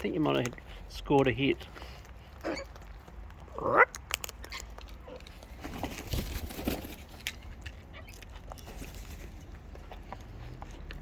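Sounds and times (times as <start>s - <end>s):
birds cracking and chewing seed: 0.0s - 11.0s
rustling and crunching: 0.0s - 11.0s.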